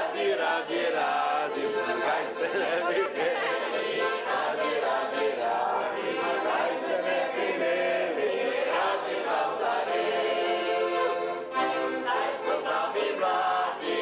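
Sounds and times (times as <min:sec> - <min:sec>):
group of people singing: 0:00.0 - 0:14.0.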